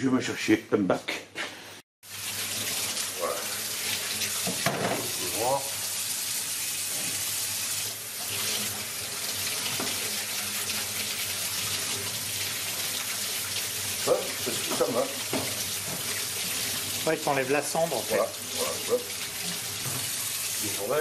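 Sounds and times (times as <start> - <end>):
tap water running into steel sink: 2.1 - 21.0.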